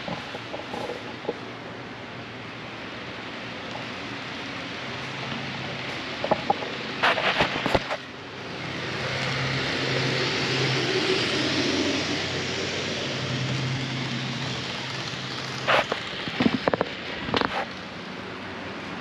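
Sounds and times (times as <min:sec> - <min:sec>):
model train motor hum and wheels: 0:00.0 - 0:19.0.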